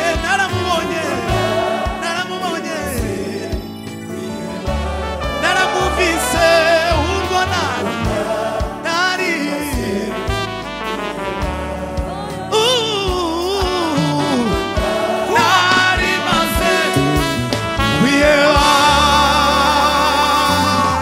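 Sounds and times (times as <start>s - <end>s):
man singing lead vocals: 0.0s - 3.8s, 5.1s - 10.6s, 12.2s - 21.0s
gospel band playing: 0.0s - 21.0s.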